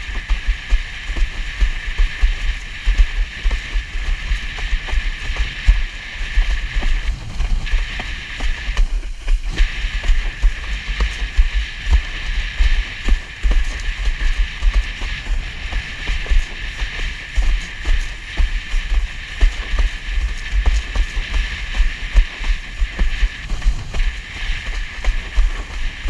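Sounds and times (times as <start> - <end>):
water rushing under a board: 0.0 - 26.0
wind buffeting microphone: 0.0 - 26.0.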